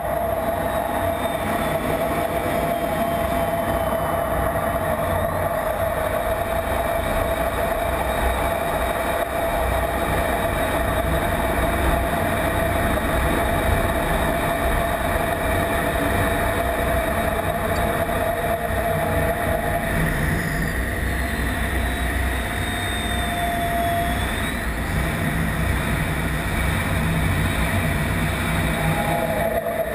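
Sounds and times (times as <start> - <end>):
jet engine whine and rumble: 0.0 - 29.9.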